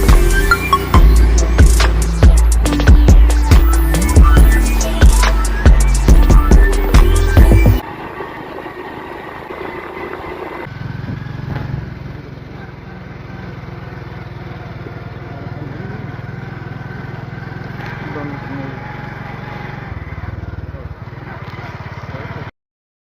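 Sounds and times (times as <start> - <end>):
motorcycle engine running: 0.0 - 22.5.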